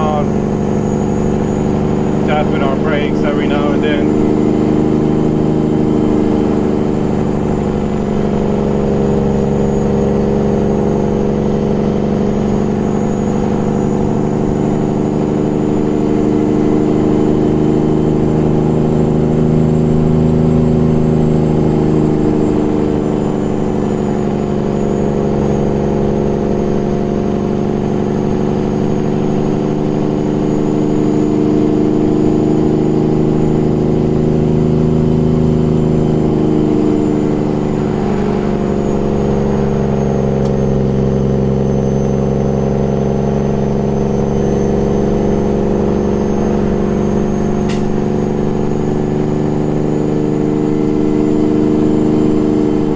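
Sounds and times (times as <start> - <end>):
diesel engine brake drone: 0.0 - 52.9.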